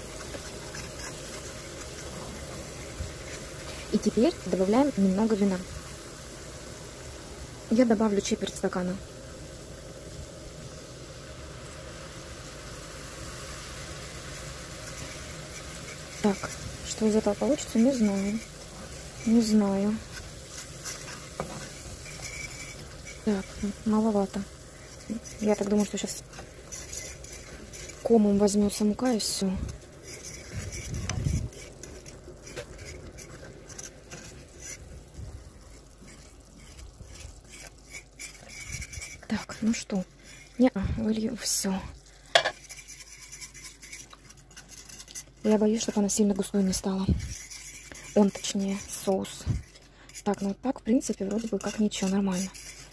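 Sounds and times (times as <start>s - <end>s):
sauce sizzling in frying pan: 0.0s - 52.9s.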